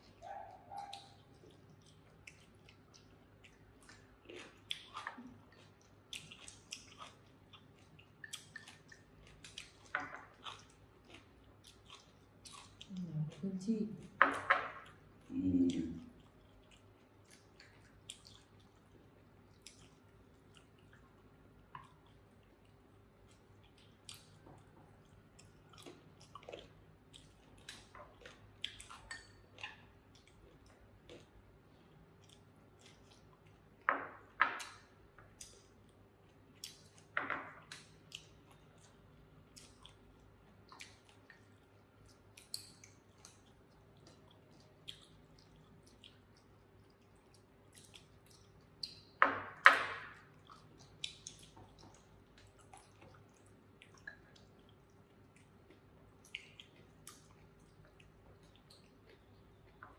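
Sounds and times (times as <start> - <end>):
people chewing: 0.0 - 33.9, 34.5 - 49.1, 49.9 - 59.9.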